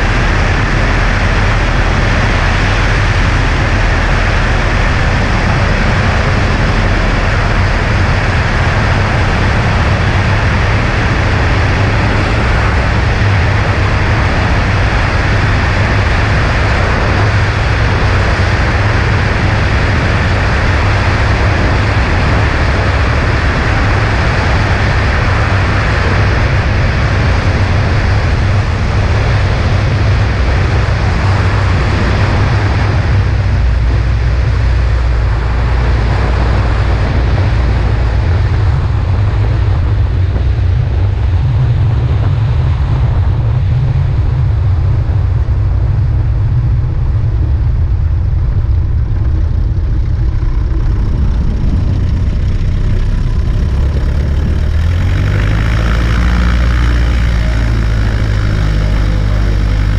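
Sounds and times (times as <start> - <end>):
propeller plane engine droning: 0.0 - 59.9
wind noise on microphone: 0.0 - 59.9.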